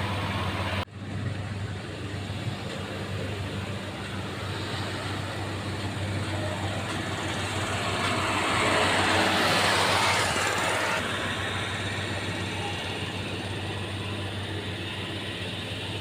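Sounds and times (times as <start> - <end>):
broad rushing noise: 0.0 - 16.0
heavy diesel machinery humming: 0.0 - 16.0.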